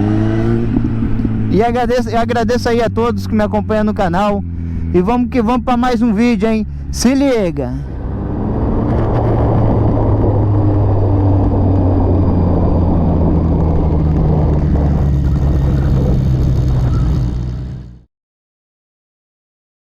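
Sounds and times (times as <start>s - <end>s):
motorcycle engine running: 0.0s - 18.1s.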